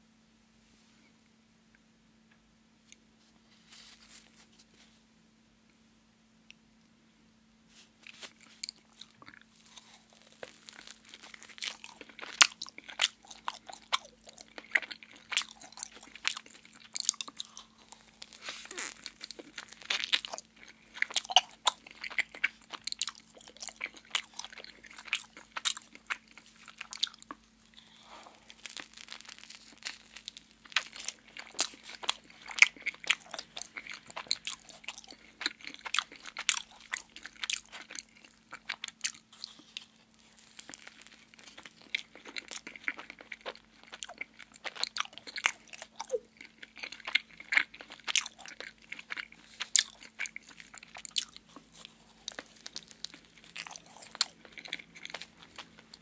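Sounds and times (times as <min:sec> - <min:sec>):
faint steady hum: 0:00.0 - 0:56.0
biting and chewing sounds: 0:08.0 - 0:56.0.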